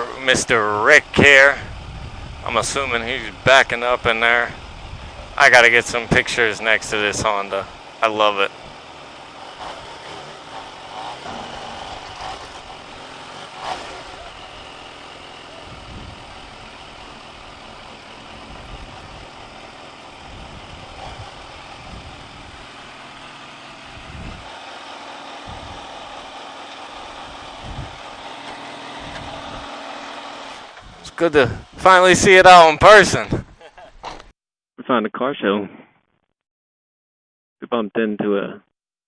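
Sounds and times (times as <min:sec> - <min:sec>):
vehicle engine idling: 0:00.0 - 0:33.7
outdoor background noise: 0:00.0 - 0:34.3.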